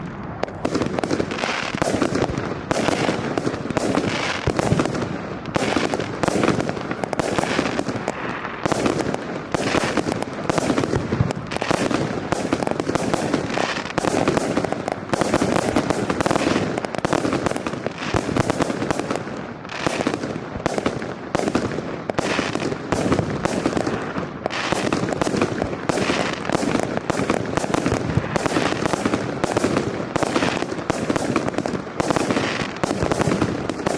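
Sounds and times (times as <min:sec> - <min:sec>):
fireworks barrage: 0:00.0 - 0:33.9.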